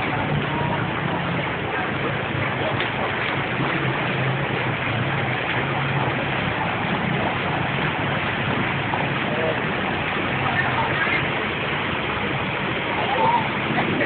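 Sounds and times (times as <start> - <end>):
constant wash of noise: 0.0 - 14.0
engine running with low hum: 0.0 - 14.0.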